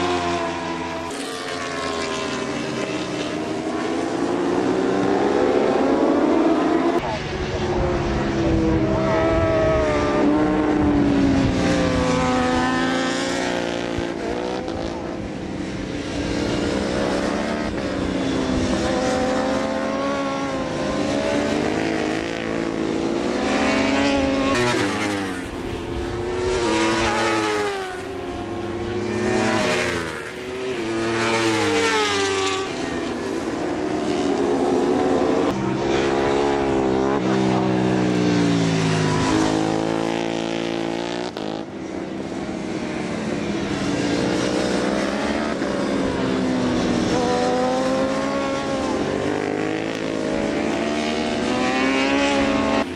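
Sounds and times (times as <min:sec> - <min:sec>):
racing motorcycle engines: 0:00.0 - 0:52.9.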